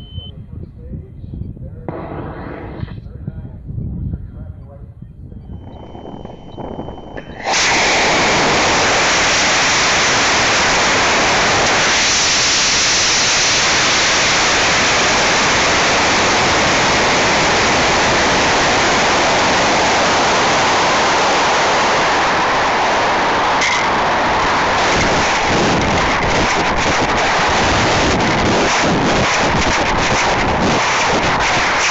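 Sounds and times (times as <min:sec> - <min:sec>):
rocket motor roaring: 0:01.9 - 0:03.1, 0:05.5 - 0:31.9.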